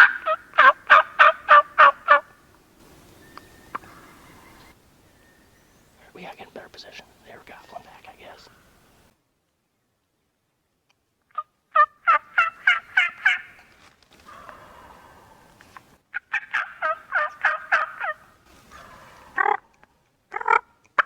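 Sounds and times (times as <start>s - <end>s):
turkey calling: 0.0s - 9.0s, 11.3s - 19.7s, 20.3s - 21.0s.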